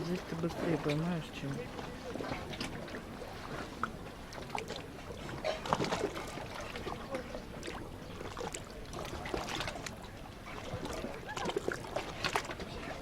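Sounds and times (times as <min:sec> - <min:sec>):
sea water lapping and splashing: 0:00.0 - 0:13.0
small splashes and ticks: 0:00.0 - 0:13.0.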